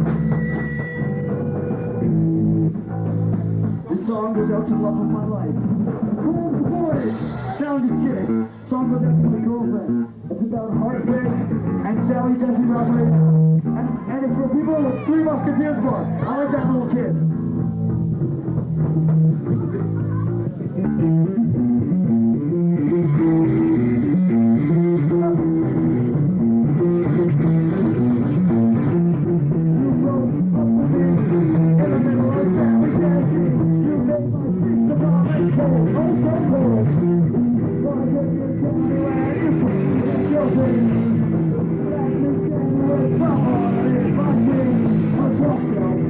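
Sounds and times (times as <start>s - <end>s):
rock band playing live: 0.0s - 46.0s.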